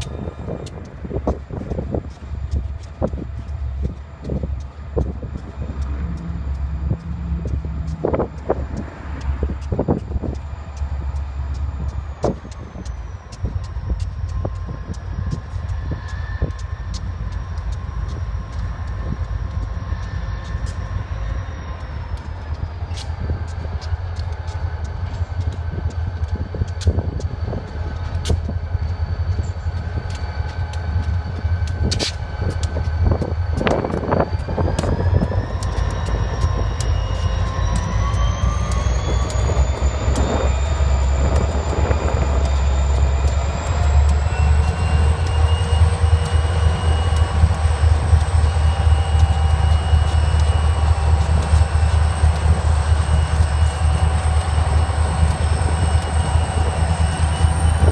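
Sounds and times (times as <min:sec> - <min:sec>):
diesel locomotive rumbling: 0:00.0 - 0:57.9
faint rising whine: 0:00.0 - 0:57.9
sharp ticks: 0:00.0 - 0:57.9.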